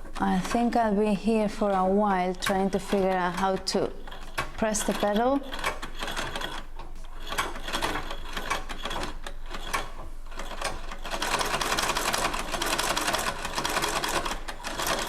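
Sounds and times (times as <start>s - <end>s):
treadle sewing machine clicking: 1.7s - 15.0s
sewing machine rattle: 2.4s - 15.0s.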